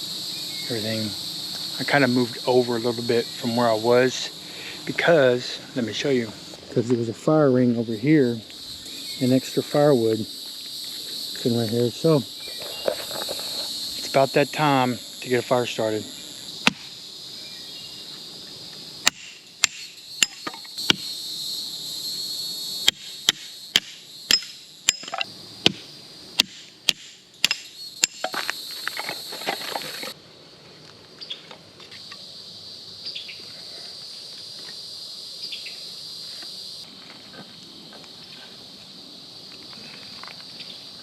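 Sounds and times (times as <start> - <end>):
cicadas droning: 0.0 - 41.0.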